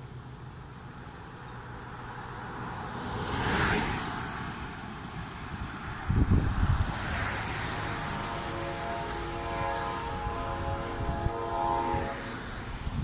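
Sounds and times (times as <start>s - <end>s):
car tyre noise passing: 0.0s - 13.0s
road traffic passing: 0.0s - 13.0s
truck passing with low rumble: 0.0s - 13.0s.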